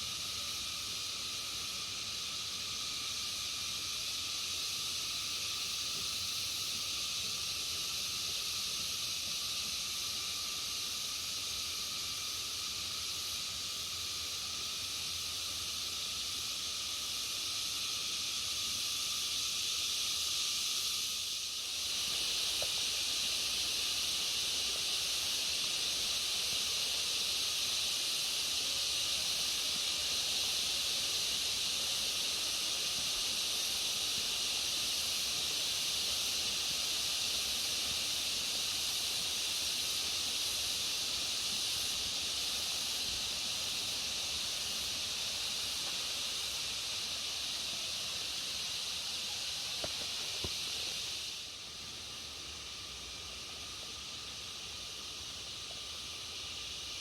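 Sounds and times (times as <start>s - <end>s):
forest insects droning: 0.0s - 57.0s.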